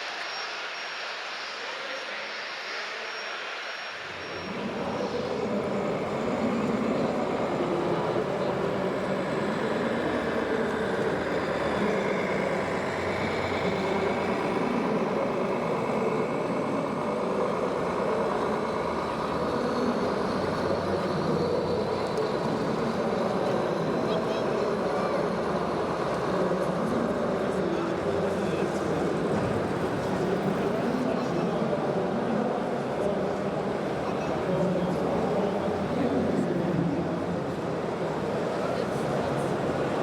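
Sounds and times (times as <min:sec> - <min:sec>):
diesel engine sounds from toy trucks: 0:04.0 - 0:40.0.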